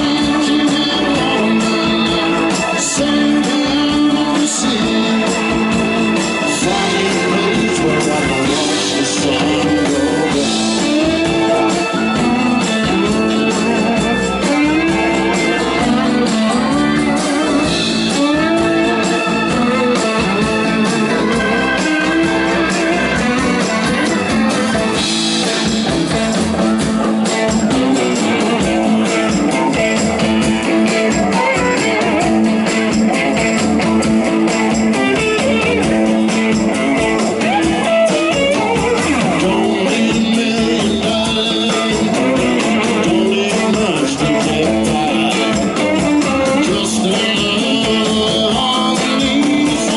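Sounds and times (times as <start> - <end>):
blues-rock band backing: 0.0 - 49.9
electric guitar playing: 0.0 - 49.9.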